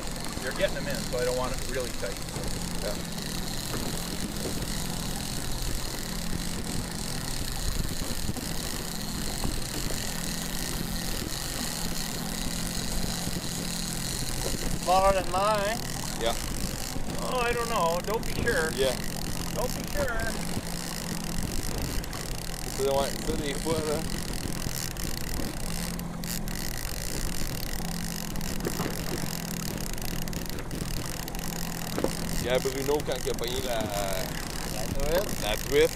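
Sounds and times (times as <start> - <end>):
boat motor humming: 0.0 - 35.9
wind buffeting microphone: 0.0 - 35.9.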